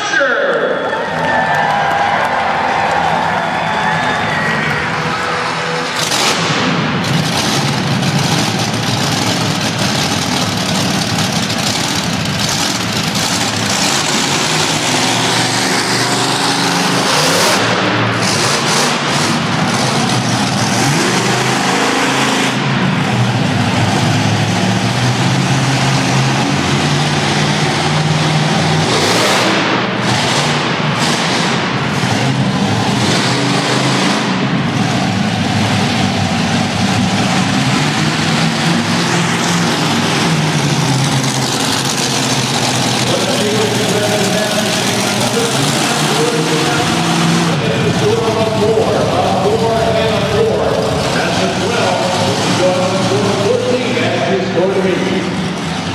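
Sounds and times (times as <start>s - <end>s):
monster truck engines revving: 0.0s - 55.9s.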